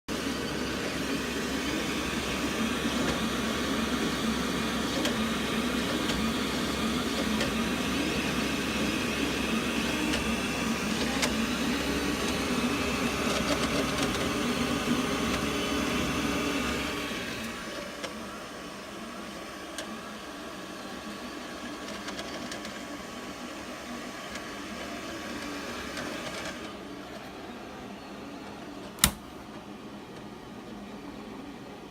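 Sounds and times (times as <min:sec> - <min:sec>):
three d printer whirring: 0:00.1 - 0:31.9.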